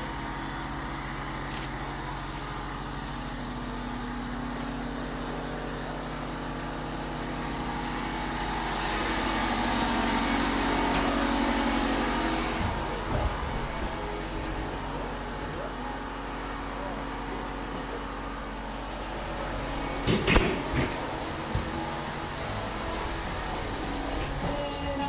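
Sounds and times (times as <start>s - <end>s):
engine humming: 0.0s - 25.0s.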